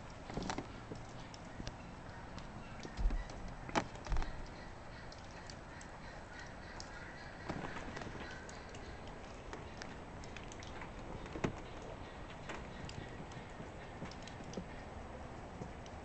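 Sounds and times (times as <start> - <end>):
peafowl pecking at nuts: 0.0 - 14.9.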